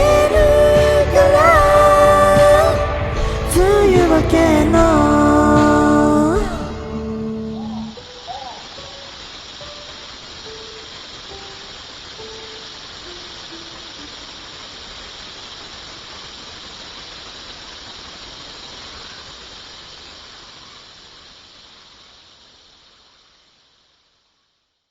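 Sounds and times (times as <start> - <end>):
high-pitched hissing noise: 0.0 - 24.9.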